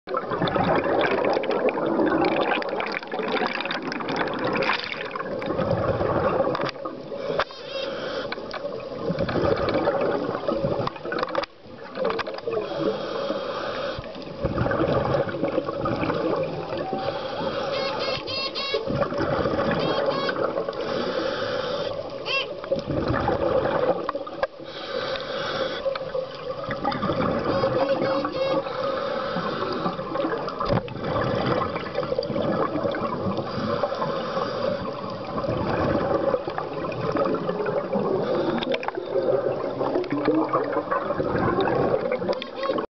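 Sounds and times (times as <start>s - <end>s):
underwater air bubbling: 0.1s - 42.9s.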